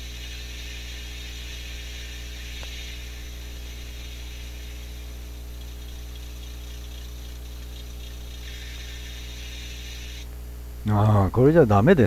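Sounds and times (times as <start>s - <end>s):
model train engine hum: 0.0s - 10.2s.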